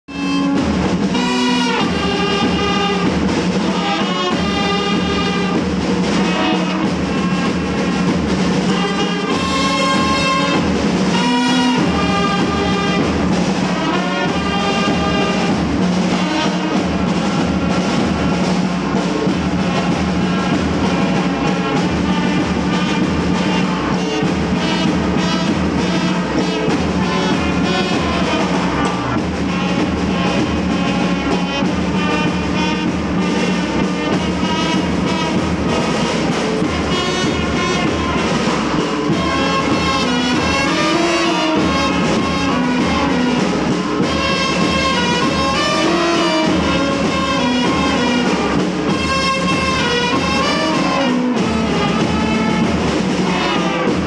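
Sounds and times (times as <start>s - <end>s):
brass group playing a tune: 0.0s - 54.0s.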